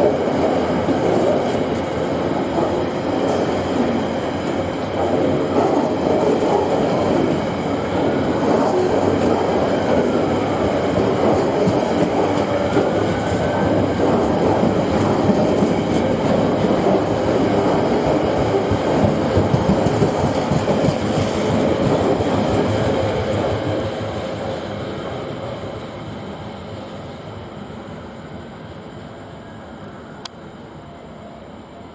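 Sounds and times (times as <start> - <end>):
freight train wheels clacking on rails: 0.0 - 27.0.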